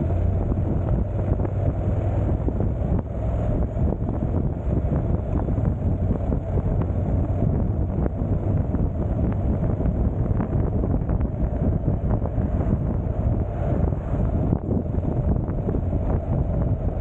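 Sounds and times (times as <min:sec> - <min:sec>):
motorcycle engine: 0:00.0 - 0:17.0
road noise: 0:00.0 - 0:17.0
wind buffeting microphone: 0:00.0 - 0:17.0.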